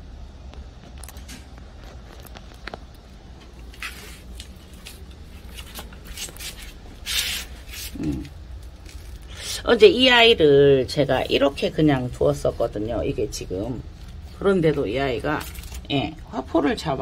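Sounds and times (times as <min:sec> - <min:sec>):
steady low hum: 0:00.0 - 0:17.0
pots and moss rustling and clicking: 0:00.5 - 0:09.3, 0:10.9 - 0:16.4.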